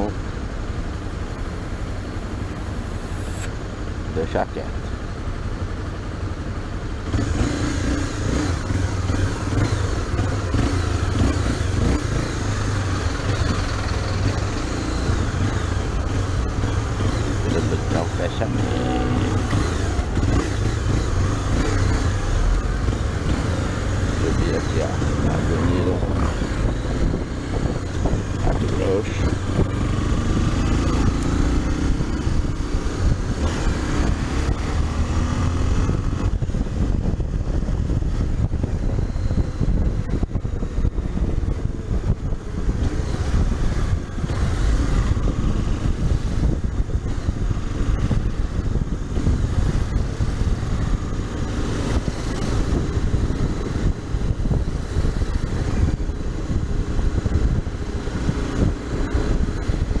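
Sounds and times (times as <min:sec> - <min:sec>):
motorcycle engine rumble: 0:00.0 - 1:00.0
wind noise on microphone: 0:07.1 - 1:00.0.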